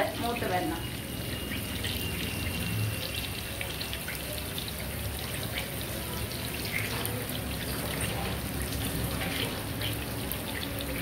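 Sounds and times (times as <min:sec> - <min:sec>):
hot oil sizzling with pops: 0:00.0 - 0:11.0.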